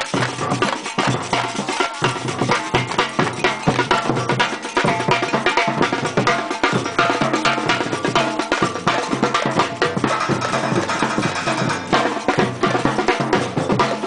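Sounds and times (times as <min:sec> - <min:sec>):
samba percussion ensemble: 0:00.0 - 0:14.0.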